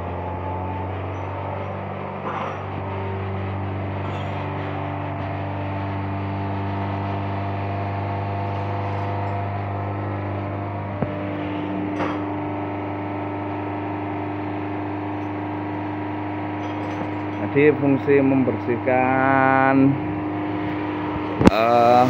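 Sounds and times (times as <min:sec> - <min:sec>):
car engine running at raised speed: 0:00.0 - 0:22.0.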